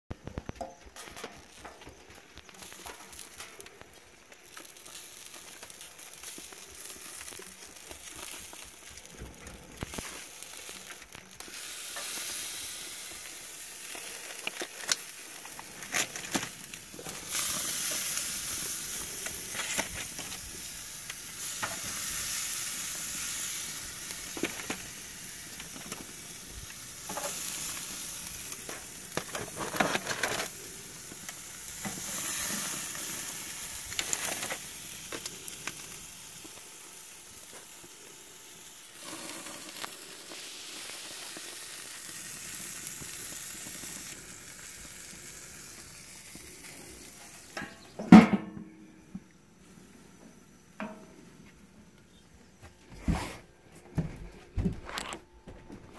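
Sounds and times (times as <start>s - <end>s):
meat sizzling on grill: 0.2s - 48.2s.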